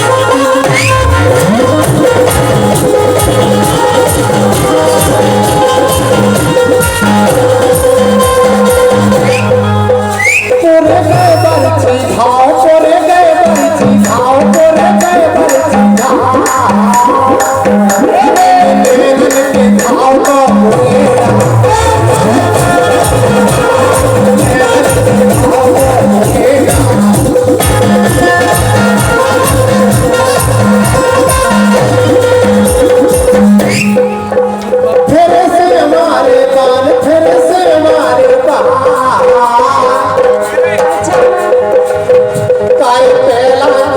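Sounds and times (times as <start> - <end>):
steady drum beat: 0.0 - 43.9.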